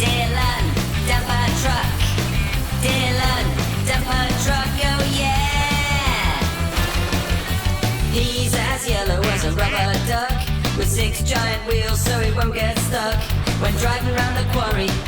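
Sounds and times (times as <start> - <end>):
upbeat rock song: 0.0 - 15.0.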